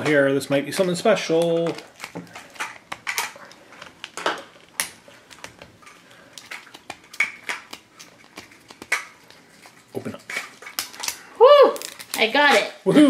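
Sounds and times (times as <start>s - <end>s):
plastic wrap crinkling: 0.0s - 12.8s.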